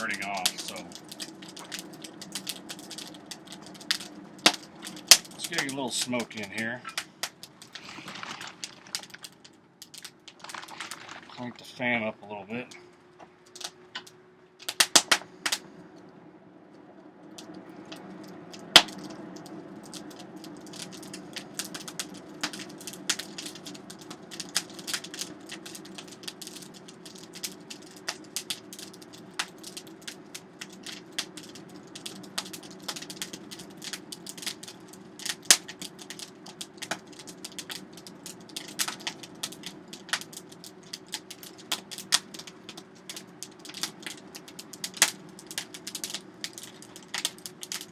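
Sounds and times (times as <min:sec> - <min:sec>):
fire crackling and snapping: 0:00.0 - 0:47.9.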